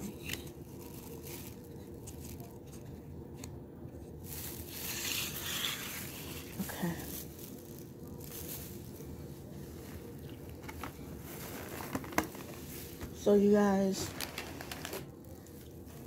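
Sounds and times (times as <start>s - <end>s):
plastic crinkling: 0.0s - 16.0s.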